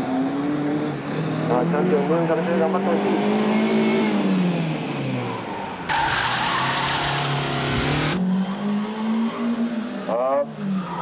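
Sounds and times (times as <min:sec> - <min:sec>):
car engine running hard: 0:00.0 - 0:11.0
tyres skidding: 0:00.9 - 0:11.0.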